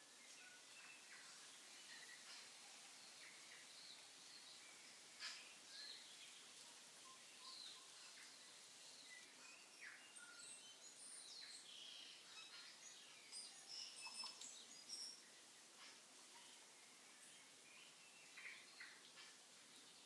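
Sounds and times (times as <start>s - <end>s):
faint room hiss: 0.0s - 20.0s
faint high chirps: 0.2s - 19.4s.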